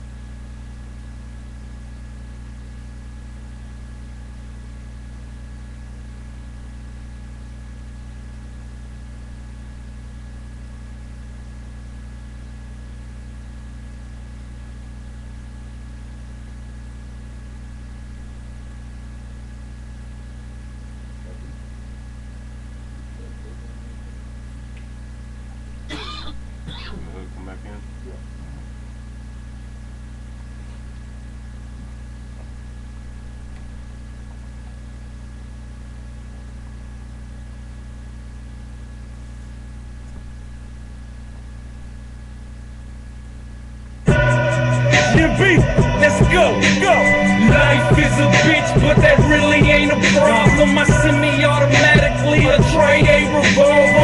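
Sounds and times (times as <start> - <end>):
faint whine tones: 0.0 - 54.0
low electrical hum: 0.0 - 54.0.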